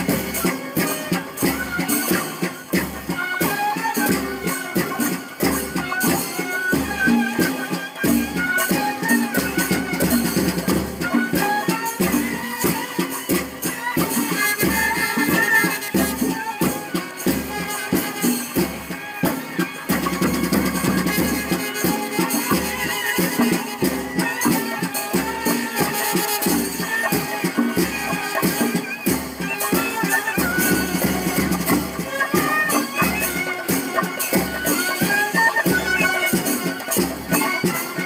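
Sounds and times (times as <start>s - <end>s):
high-pitched percussion: 0.0s - 38.0s
procession band music: 0.0s - 38.0s.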